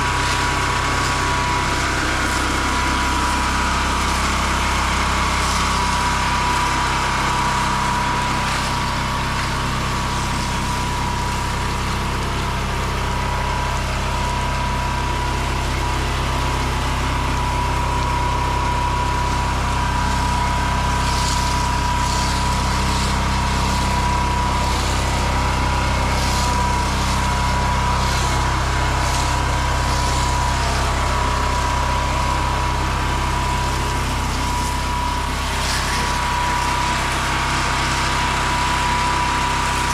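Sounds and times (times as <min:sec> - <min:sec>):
high whine: 0:00.0 - 0:39.9
small engine running: 0:00.0 - 0:39.9.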